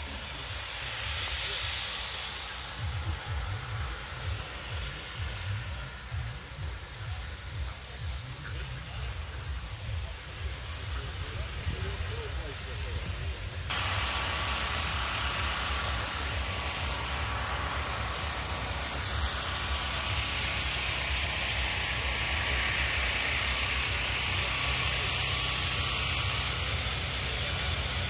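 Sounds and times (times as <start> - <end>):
low mechanical rumble: 0.0 - 28.0
steady hiss: 0.0 - 28.0.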